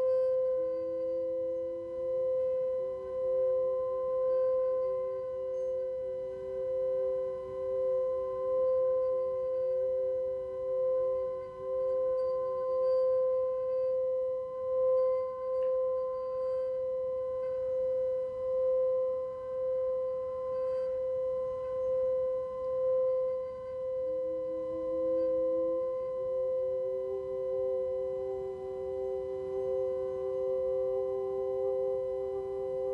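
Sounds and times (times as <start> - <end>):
lower singing bowl tone: 0.0 - 32.9
singing bowl sustained tone: 0.0 - 32.9.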